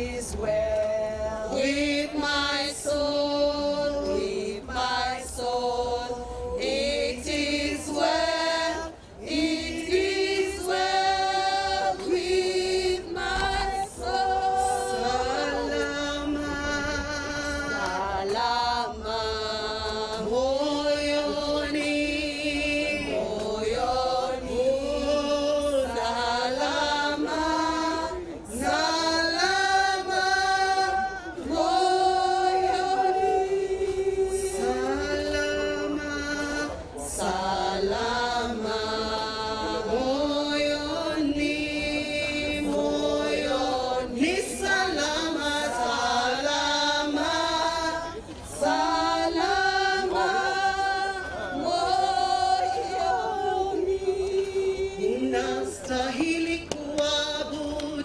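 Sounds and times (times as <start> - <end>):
women singing in chorus: 0.0 - 58.0.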